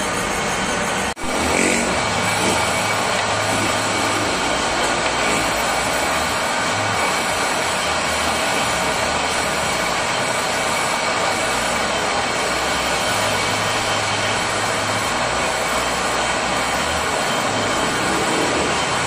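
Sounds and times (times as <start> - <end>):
metal lathe whirring: 0.0 - 19.0.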